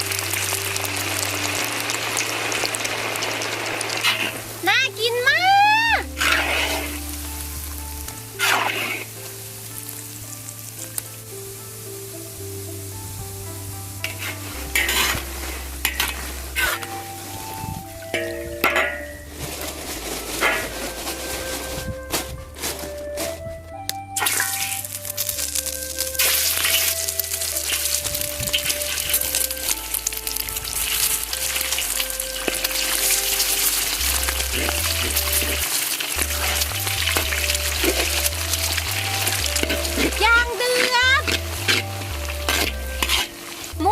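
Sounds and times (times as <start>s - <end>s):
sausages sizzling in hot oil: 0.0s - 22.1s, 24.2s - 43.9s
background music with held notes: 0.0s - 43.9s.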